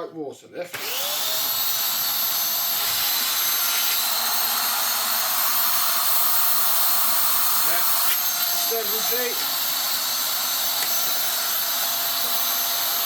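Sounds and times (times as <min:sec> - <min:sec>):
vacuum cleaner running: 0:00.7 - 0:13.0.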